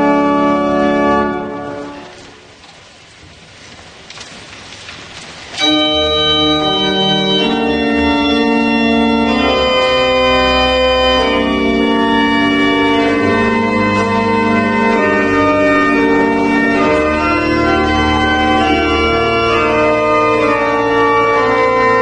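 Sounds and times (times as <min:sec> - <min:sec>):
church pipe organ chords: 0:00.0 - 0:02.3, 0:05.6 - 0:22.0.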